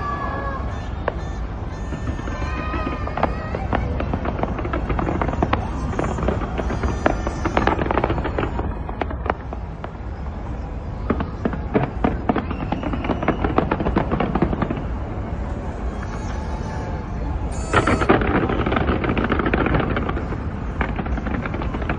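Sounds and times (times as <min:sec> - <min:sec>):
continuous rumble: 0:00.0 - 0:21.9
fireworks bangs and crackling: 0:00.0 - 0:21.9.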